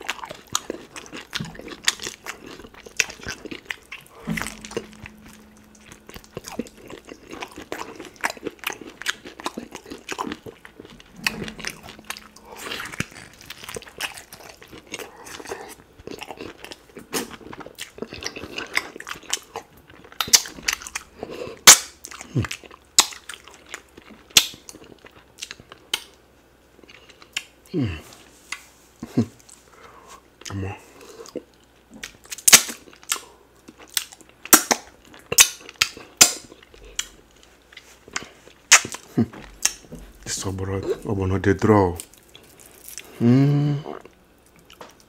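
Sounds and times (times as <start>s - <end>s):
close-miked wet chewing: 0.0s - 26.2s, 28.5s - 43.2s.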